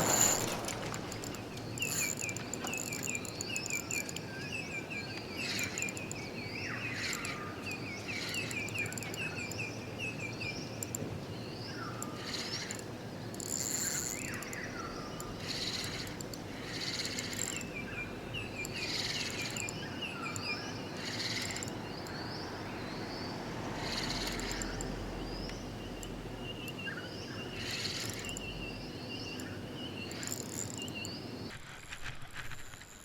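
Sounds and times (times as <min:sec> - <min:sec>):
birds chirping: 0:00.0 - 0:31.5.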